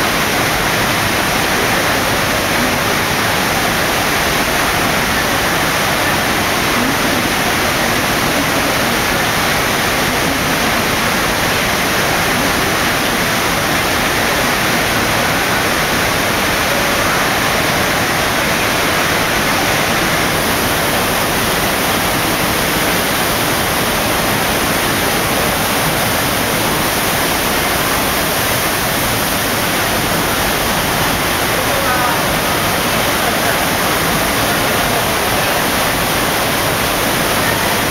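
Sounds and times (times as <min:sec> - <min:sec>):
rush of pumped water: 0:00.0 - 0:37.9.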